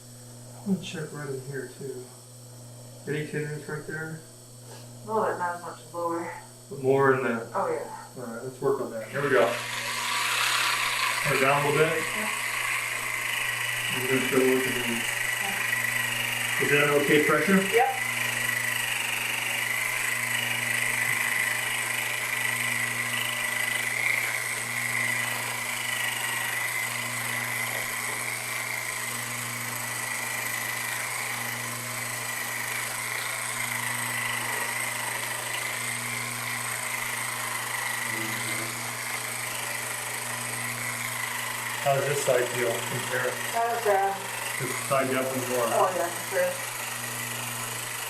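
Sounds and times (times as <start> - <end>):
electric massager motor hum: 0.0 - 48.0.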